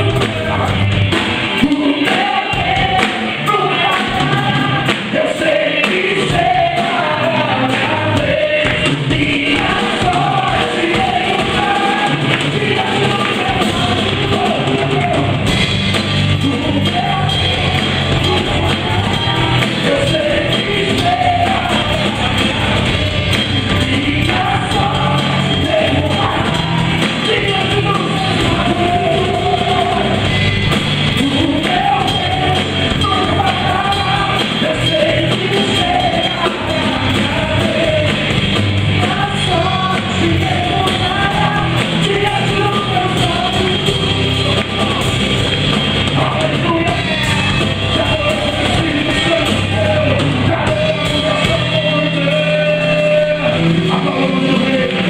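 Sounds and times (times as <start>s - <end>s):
worship band singing: 0.0s - 55.0s.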